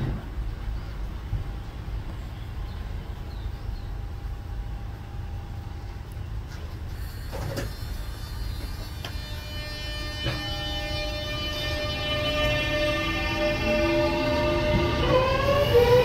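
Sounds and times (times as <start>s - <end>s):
train equipment low rumble: 0.0s - 16.0s.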